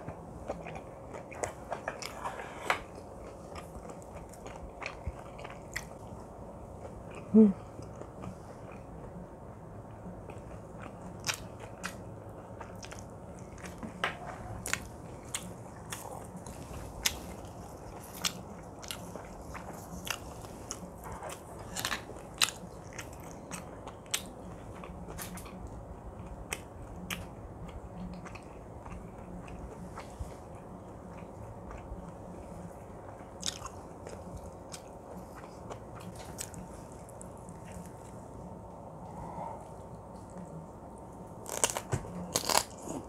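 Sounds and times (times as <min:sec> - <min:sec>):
chewing and wet mouth sounds: 0:00.0 - 0:43.0.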